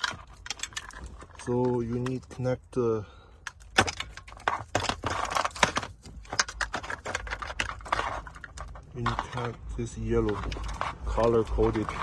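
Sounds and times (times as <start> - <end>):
plastic plugs clicking and rustling: 0.0 - 12.0.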